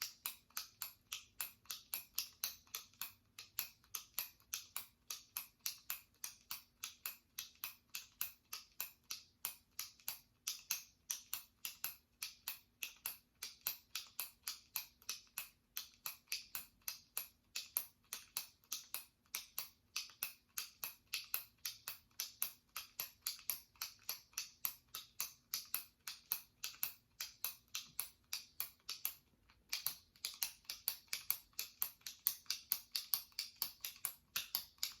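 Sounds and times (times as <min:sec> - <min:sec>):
retractable pen clicking: 0:00.0 - 0:35.0.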